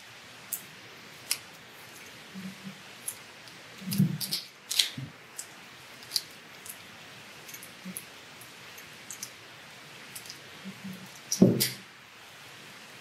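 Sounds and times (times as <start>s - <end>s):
electrical tape crackling: 0.0s - 12.0s.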